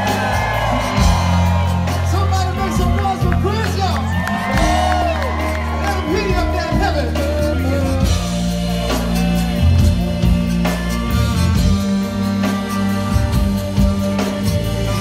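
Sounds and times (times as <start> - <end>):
live zydeco band playing: 0.0 - 15.0
sustained bass notes: 0.0 - 15.0.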